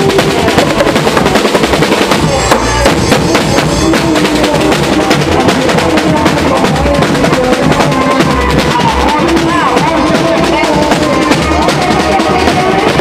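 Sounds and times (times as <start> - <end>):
live band music: 0.0 - 13.0
rapid drum fill: 0.0 - 13.0.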